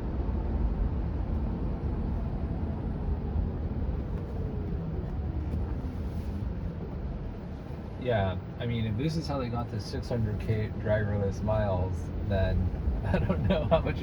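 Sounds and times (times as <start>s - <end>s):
road and tyre noise: 0.0s - 14.0s.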